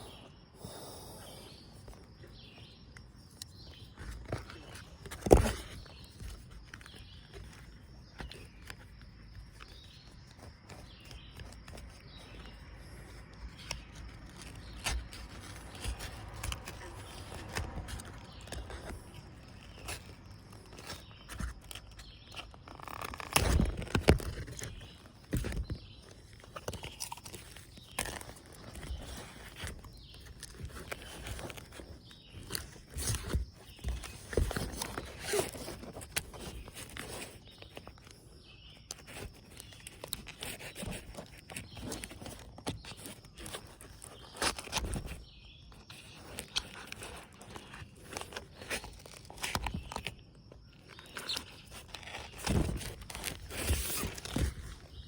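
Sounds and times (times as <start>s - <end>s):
handling scrapes rustles and knocks: 1.5s - 55.0s.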